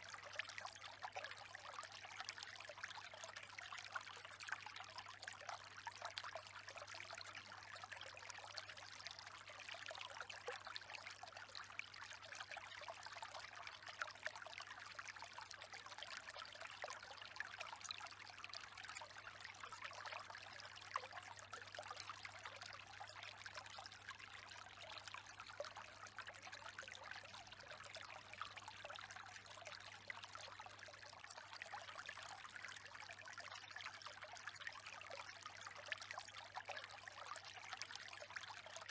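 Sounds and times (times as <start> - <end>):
trickling water: 0.0 - 38.9.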